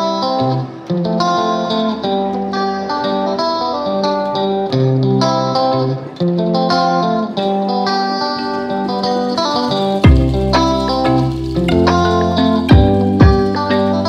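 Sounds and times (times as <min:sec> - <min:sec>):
instrumental guitar music: 0:00.0 - 0:14.0.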